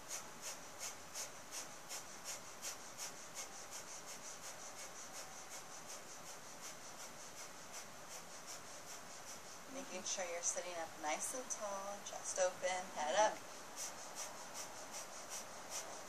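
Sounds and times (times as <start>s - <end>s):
rapid forceful nose breathing: 0.0s - 16.0s.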